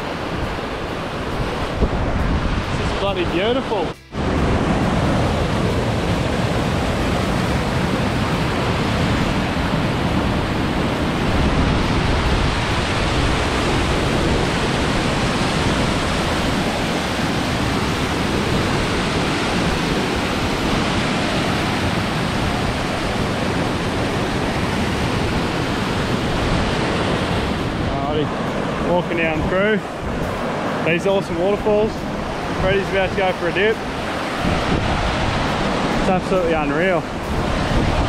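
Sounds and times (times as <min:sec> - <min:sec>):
water rushing down waterfalls: 0:00.0 - 0:38.0.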